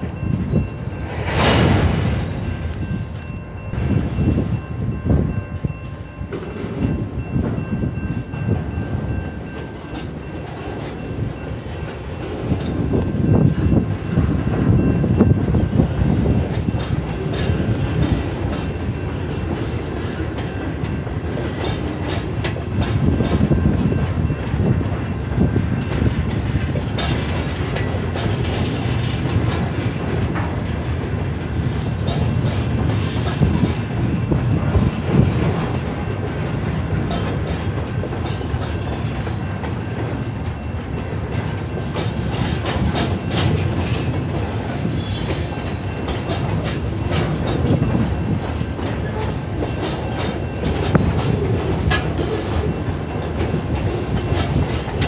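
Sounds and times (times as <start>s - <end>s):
rumble of train wheels on rail: 0.0s - 55.0s
wheels clicking over rail joints: 8.9s - 55.0s.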